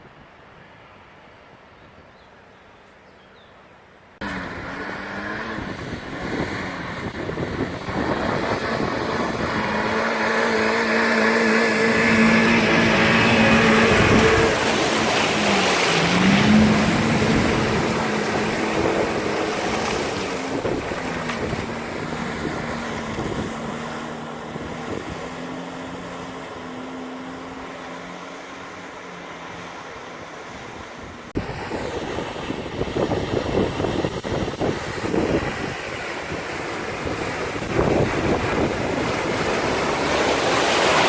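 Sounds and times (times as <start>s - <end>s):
off-road vehicle engine revving: 4.2s - 41.0s
wind on microphone: 4.5s - 27.8s, 29.5s - 41.0s.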